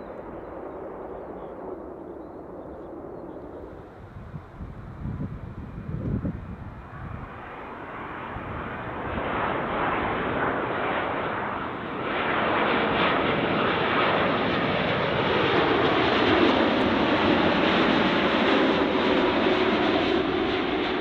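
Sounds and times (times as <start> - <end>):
airliner engine roar: 0.0 - 21.0.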